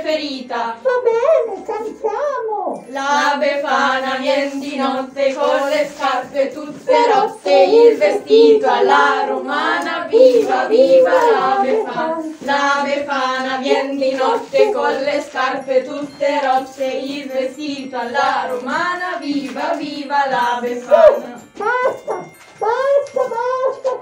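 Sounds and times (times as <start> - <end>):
group of voices singing: 0.0 - 1.5, 2.8 - 22.2.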